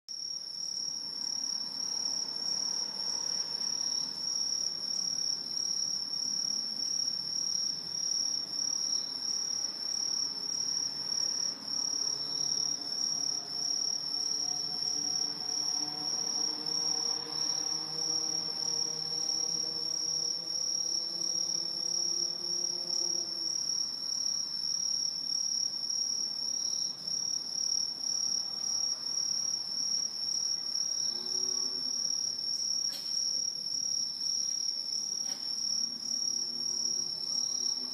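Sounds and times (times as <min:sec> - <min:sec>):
crickets trilling: 0:00.2 - 0:37.9.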